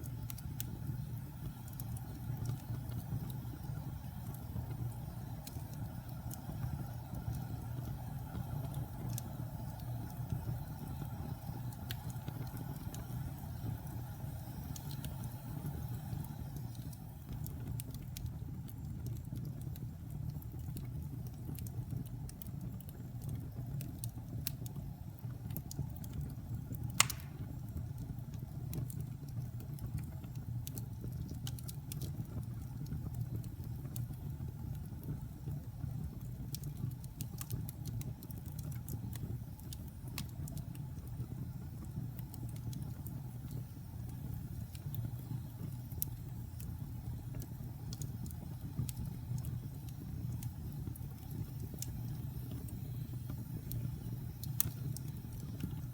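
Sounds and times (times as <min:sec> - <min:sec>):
low fire rumble: 0:00.0 - 0:55.9
wood fire crackling: 0:00.0 - 0:55.9.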